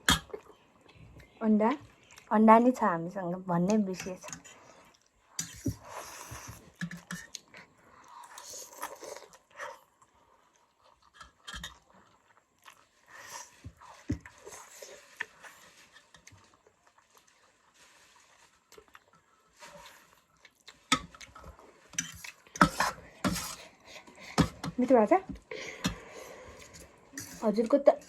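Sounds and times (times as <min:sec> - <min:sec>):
chewing and slurping noodles: 0:03.7 - 0:28.0.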